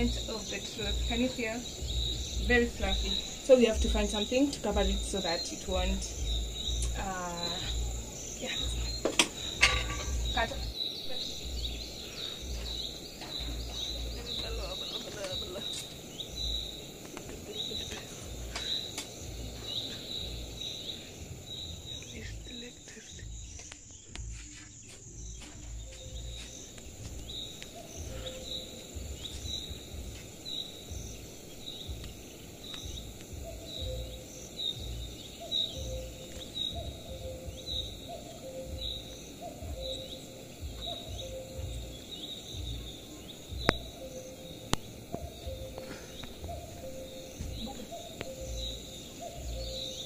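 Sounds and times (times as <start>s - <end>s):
low background noise: 0.0s - 50.0s.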